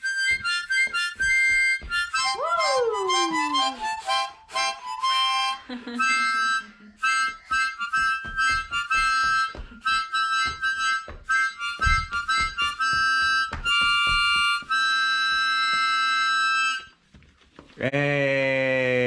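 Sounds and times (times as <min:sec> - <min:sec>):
small wind instrument music: 0:00.0 - 0:17.0.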